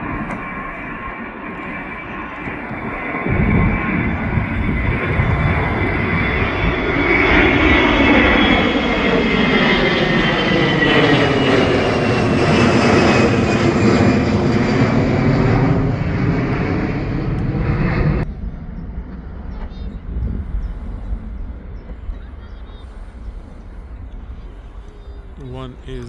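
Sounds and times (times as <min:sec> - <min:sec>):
airliner engine whine passing: 0:00.0 - 0:26.0.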